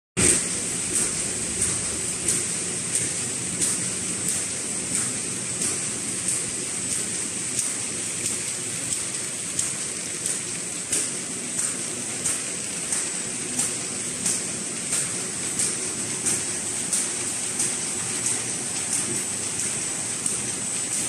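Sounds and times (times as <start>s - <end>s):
paper bag machine running: 0.2s - 21.0s.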